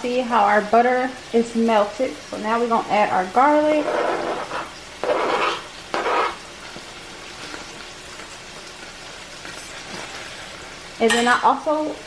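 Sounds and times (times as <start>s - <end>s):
garlic sizzling in butter: 0.0s - 12.0s.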